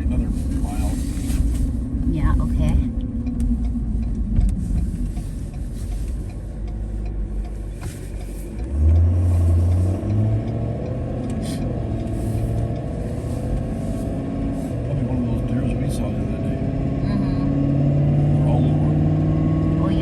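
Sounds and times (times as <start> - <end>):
road rumble: 0.0 - 20.0
vehicle engine accelerating: 0.0 - 20.0.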